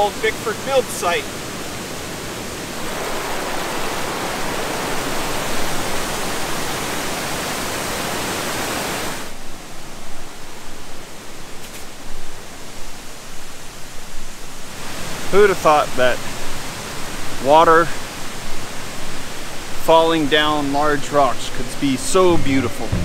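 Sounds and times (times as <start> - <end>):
creek rapids roaring: 0.0 - 23.0.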